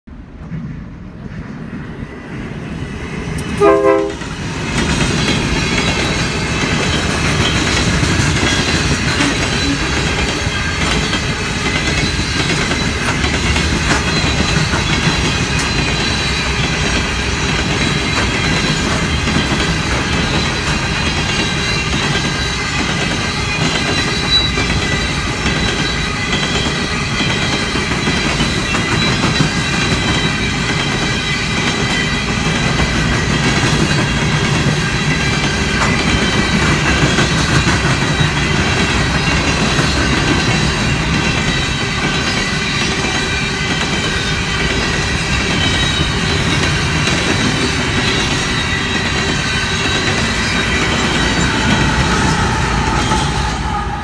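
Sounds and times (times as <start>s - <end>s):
diesel locomotive: 0.1s - 54.0s
train wheels rumbling on rails: 0.1s - 54.0s
high ring from wheels: 5.1s - 54.0s.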